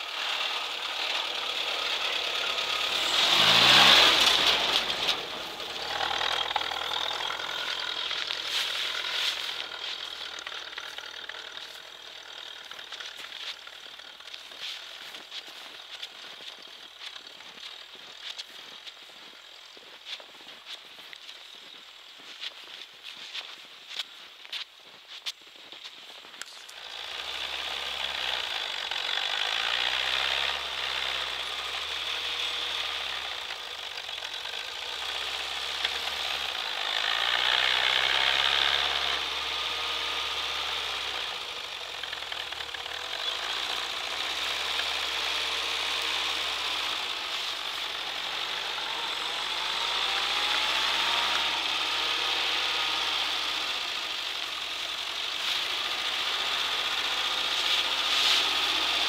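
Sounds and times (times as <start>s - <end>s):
off-road vehicle engine revving: 0.0s - 19.2s, 26.5s - 59.0s.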